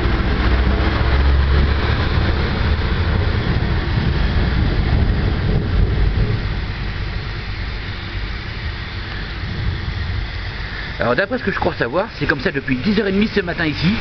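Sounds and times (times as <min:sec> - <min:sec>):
deep low rumble: 0:00.0 - 0:14.0
heavy rain on wet street: 0:00.0 - 0:14.0.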